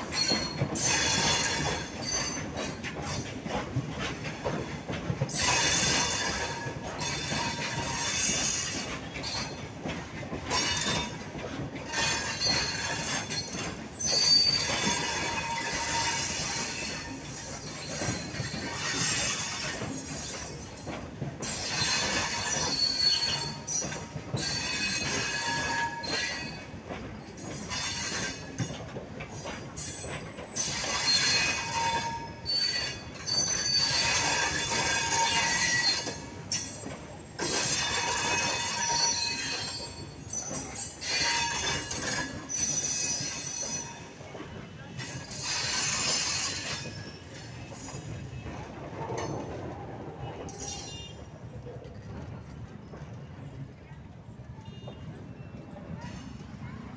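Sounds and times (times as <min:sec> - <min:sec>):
freight train rumble: 0:00.0 - 0:56.9
train wheels squealing on rails: 0:00.0 - 0:56.9.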